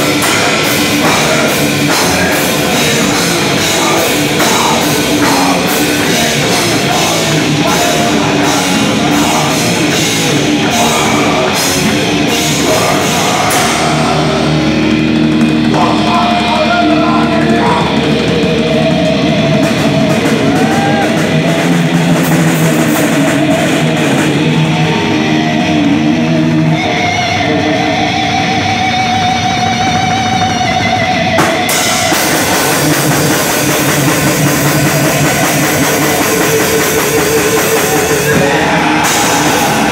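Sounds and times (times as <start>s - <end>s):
distorted electric guitars: 0.0s - 39.9s
drum kit: 0.0s - 39.9s
person singing: 0.0s - 39.9s.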